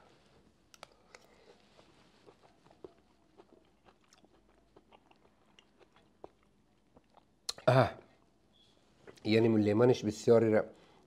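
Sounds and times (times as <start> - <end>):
faint chewing of vegetables: 0.0 - 9.4.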